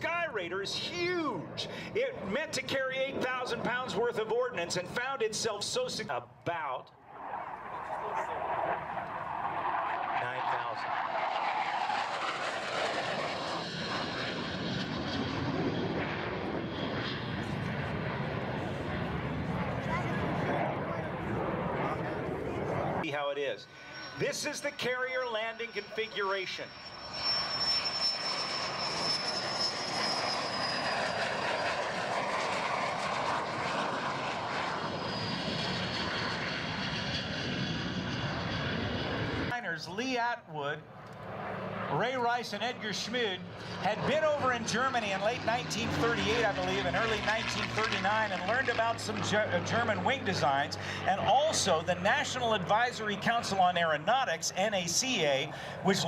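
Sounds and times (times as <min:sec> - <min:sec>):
airplane flying overhead: 0:00.0 - 0:56.0.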